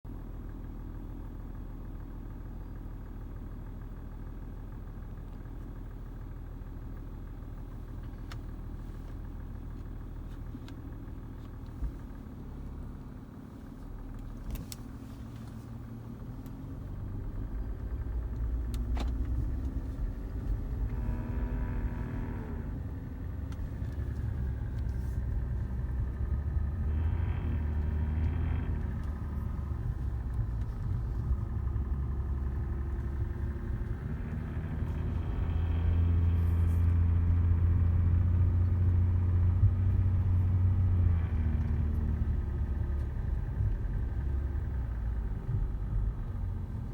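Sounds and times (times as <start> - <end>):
car engine running: 0.1 - 46.9.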